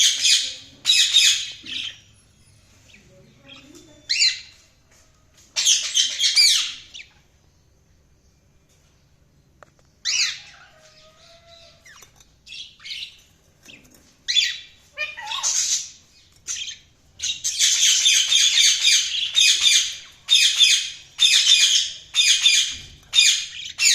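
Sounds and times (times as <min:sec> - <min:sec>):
budgerigars chirping and squawking: 0:00.0 - 0:04.6, 0:05.5 - 0:07.3, 0:10.0 - 0:23.9.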